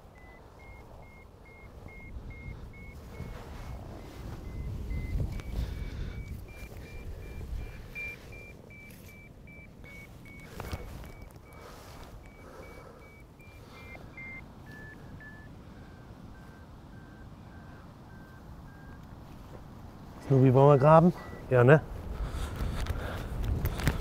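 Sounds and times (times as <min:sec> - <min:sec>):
electronic receiver beeping: 0:00.0 - 0:19.1, 0:20.2 - 0:21.7
low wind rumble: 0:00.0 - 0:24.0.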